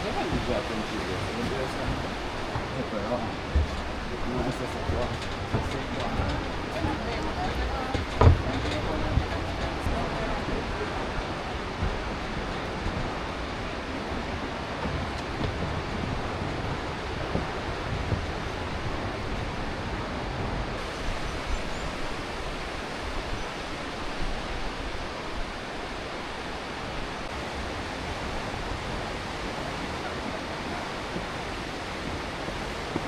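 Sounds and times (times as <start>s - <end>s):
fast-flowing river water: 0.0s - 33.0s.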